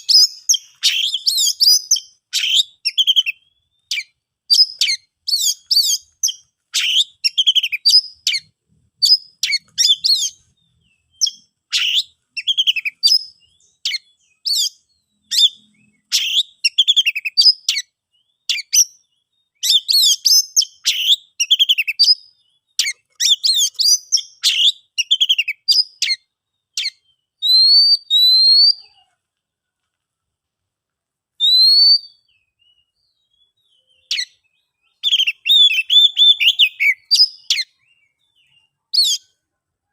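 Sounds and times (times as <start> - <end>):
bird singing whistled notes: 0.0 - 29.1, 31.4 - 39.4.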